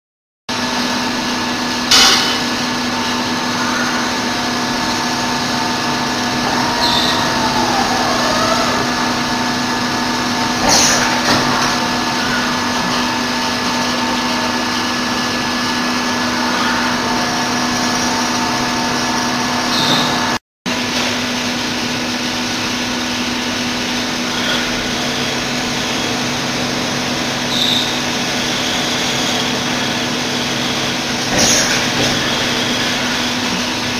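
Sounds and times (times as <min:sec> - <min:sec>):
gliding machine whine: 0:00.5 - 0:33.9.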